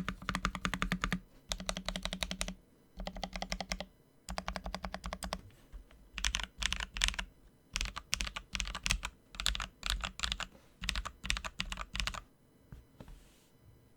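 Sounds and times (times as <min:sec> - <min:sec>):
mechanical keyboard typing: 0:00.0 - 0:05.4, 0:06.2 - 0:12.2.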